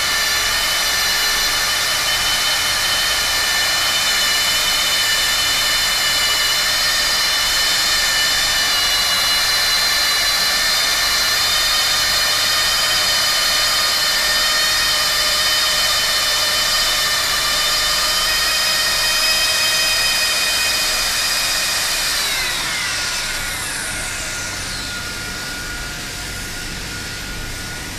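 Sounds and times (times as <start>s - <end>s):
hot-air welding gun whining: 0.0s - 27.9s.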